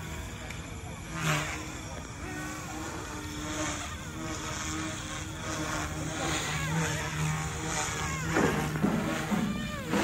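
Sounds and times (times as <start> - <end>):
toy helicopter rotor whirring: 0.0 - 10.0.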